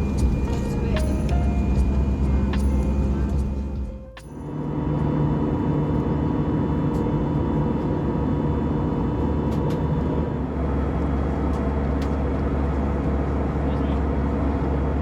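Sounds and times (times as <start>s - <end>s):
constant hum: 0.0s - 15.0s
jet engine rumble and airflow: 0.0s - 15.0s.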